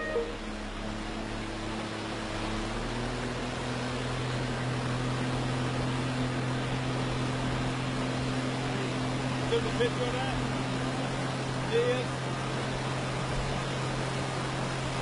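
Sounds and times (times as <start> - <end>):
rushing churning water: 0.0 - 15.0
vehicle engine running: 0.0 - 15.0.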